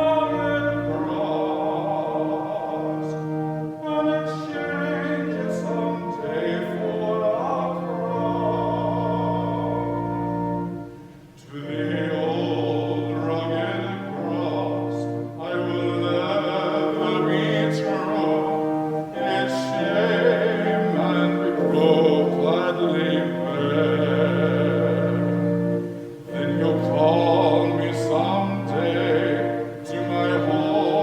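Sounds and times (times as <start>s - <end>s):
classical singing: 0.0s - 31.0s
musical accompaniment: 0.0s - 31.0s.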